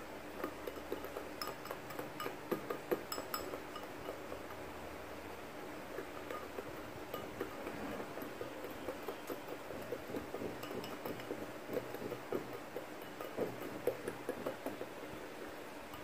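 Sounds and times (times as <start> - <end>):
whisk scraping ceramic bowl: 0.3 - 4.6, 5.8 - 16.0.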